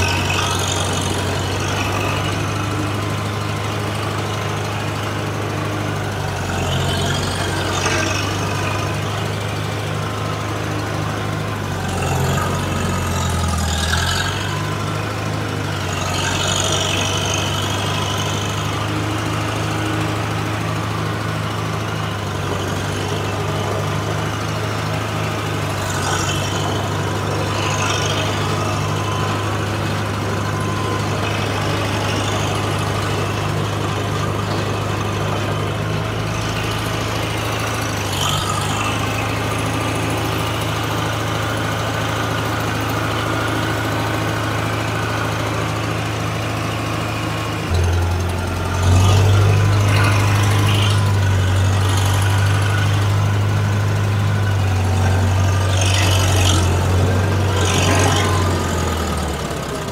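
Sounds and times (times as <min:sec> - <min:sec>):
dozer diesel engine idling: 0:00.0 - 0:59.9.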